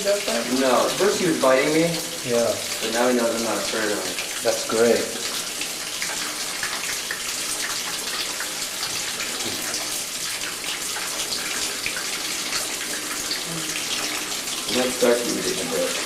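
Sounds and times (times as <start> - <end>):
tap running water: 0.0 - 16.0.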